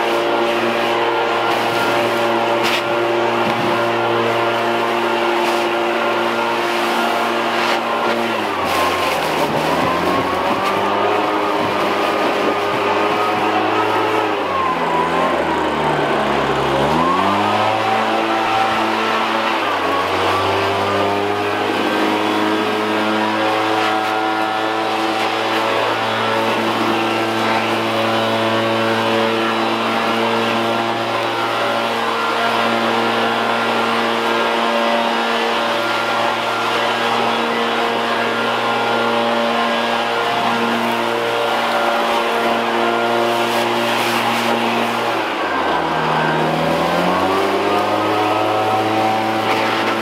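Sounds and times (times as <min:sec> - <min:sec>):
leaf blower engine running: 0:00.0 - 0:50.0.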